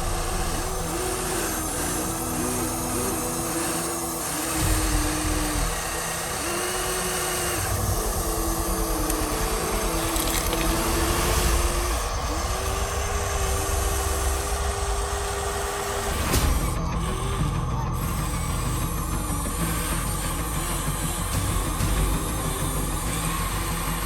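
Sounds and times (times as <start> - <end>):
low rumble: 0.0 - 23.3
small electric motors whining: 0.0 - 24.0.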